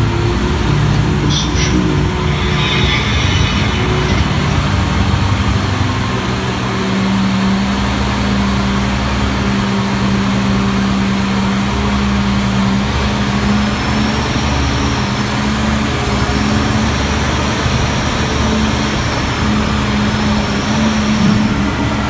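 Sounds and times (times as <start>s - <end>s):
road noise: 0.0s - 22.0s
tram engine hum: 0.0s - 22.0s.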